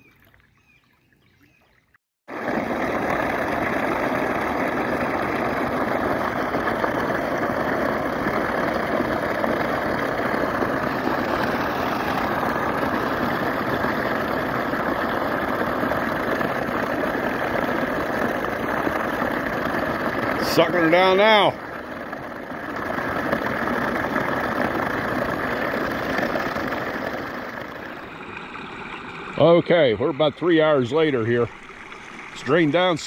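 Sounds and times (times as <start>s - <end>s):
water rushing into drain pipe: 0.0s - 33.0s.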